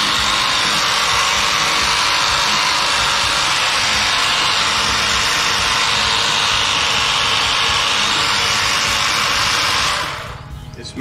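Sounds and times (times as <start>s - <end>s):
pressure washer spraying: 0.0s - 10.4s.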